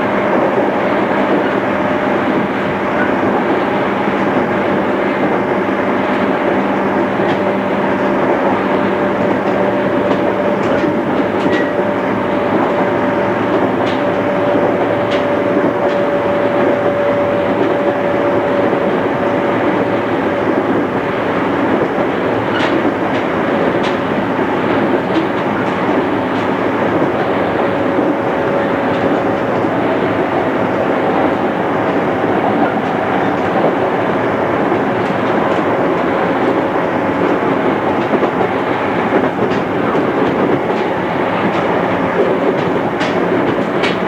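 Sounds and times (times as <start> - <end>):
rail joint clicks: 0.0 - 44.0
rumble of train wheels on rail: 0.0 - 44.0
steady train whine: 0.0 - 44.0.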